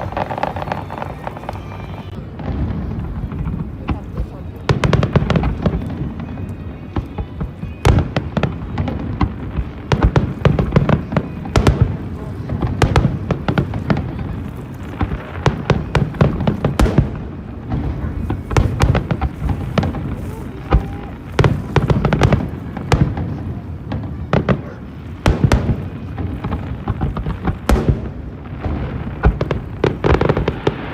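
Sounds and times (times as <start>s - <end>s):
fireworks bursting: 0.0s - 30.9s.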